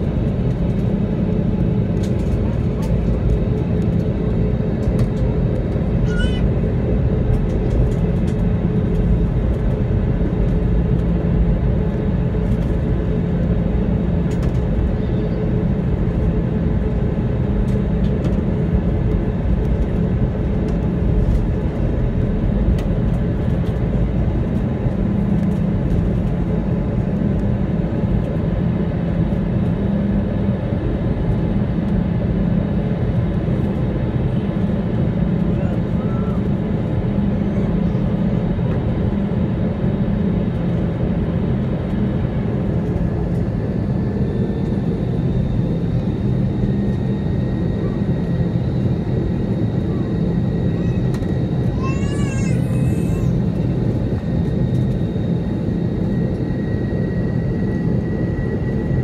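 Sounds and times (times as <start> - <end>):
airplane engine drone in cabin: 0.0 - 59.0.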